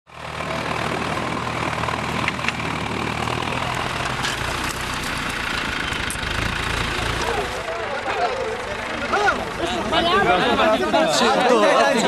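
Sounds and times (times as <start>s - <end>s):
tractor engine idling: 0.1s - 12.0s.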